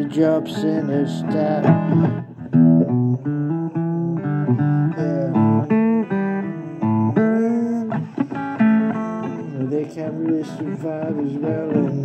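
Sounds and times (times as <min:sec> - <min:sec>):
blues guitar solo: 0:00.0 - 0:12.0.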